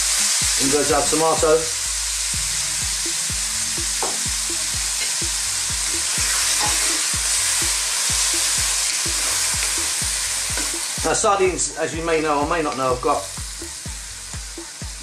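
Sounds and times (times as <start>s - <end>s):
background music with low beat: 0.0s - 15.0s
food sizzling in hot oil: 0.0s - 15.0s.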